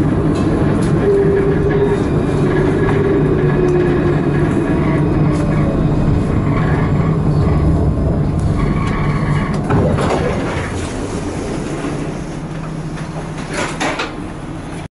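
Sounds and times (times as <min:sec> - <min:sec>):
tram hum on rails: 0:00.0 - 0:14.9.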